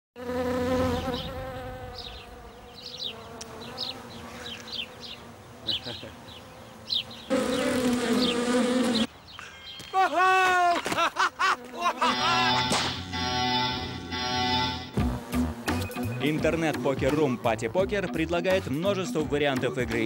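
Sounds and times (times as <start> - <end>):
bee buzzing: 0.2 - 9.1, 11.2 - 20.0.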